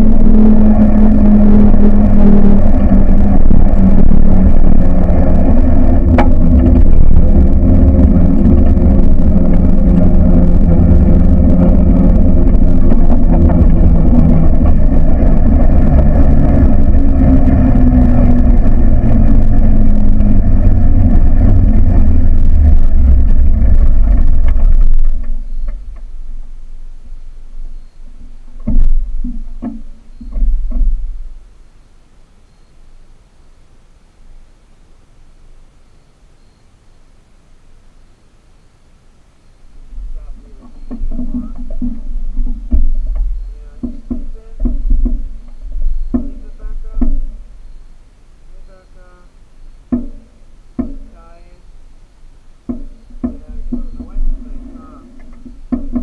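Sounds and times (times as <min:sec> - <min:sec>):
buggy engine rumbling: 0:00.0 - 0:33.0, 0:39.5 - 0:56.0.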